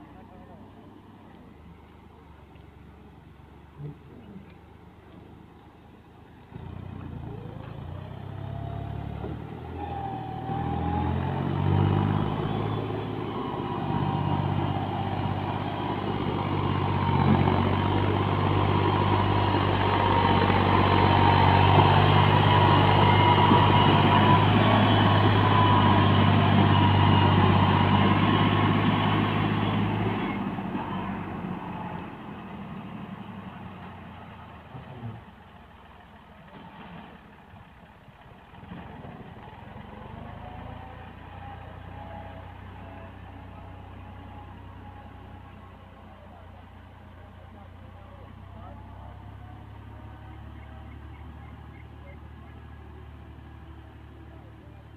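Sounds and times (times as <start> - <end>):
tractor diesel engine: 0.0 - 54.9.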